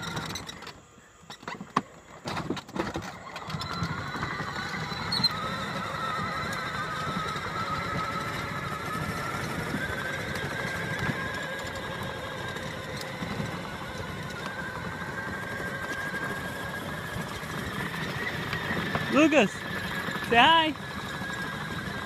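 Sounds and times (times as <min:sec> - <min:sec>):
plastic wheels rolling on asphalt: 0:00.0 - 0:22.0
electric motor whine: 0:03.1 - 0:22.0.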